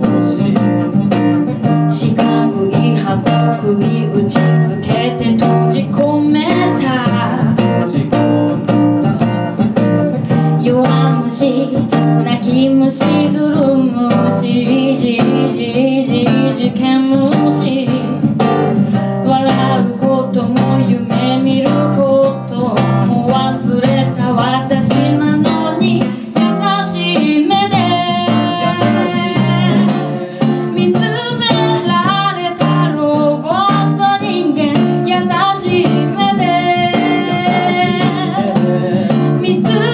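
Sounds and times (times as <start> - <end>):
classical guitar: 0.0 - 39.9
woman singing into a microphone: 0.0 - 39.9.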